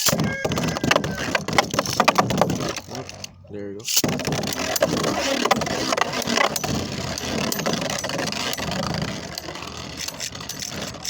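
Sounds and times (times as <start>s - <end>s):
tops clicking against each other: 0.0s - 11.0s.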